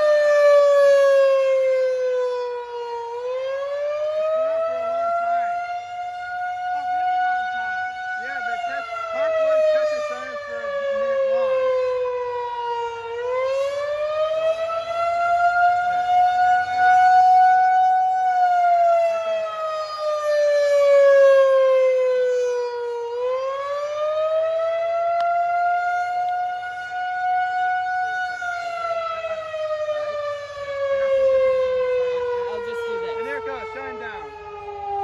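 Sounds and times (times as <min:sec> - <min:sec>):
rising and falling warning siren: 0:00.0 - 0:35.0.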